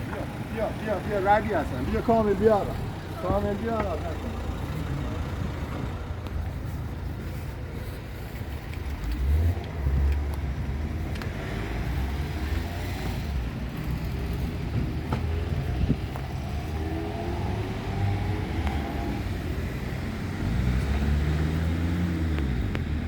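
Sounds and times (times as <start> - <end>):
tram rumbling: 0.0 - 23.0.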